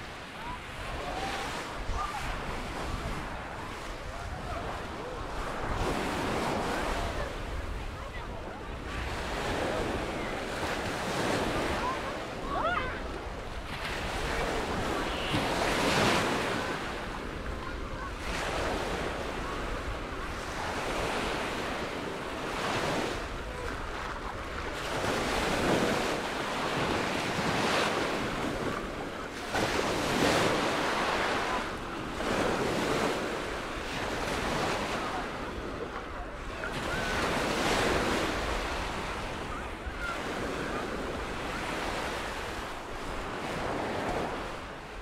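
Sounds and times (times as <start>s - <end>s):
small waves washing up beach: 0.0s - 45.0s.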